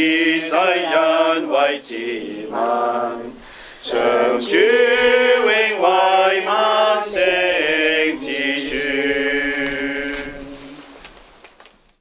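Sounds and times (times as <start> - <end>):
person singing a hymn unaccompanied: 0.0 - 11.0.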